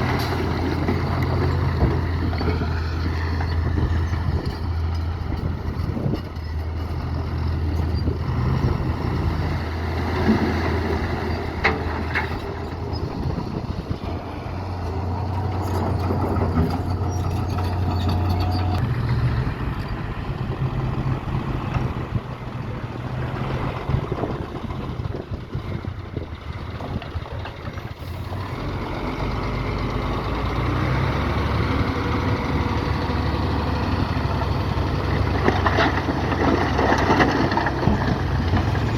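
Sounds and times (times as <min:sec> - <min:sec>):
diesel construction machinery drone: 0:00.0 - 0:38.9.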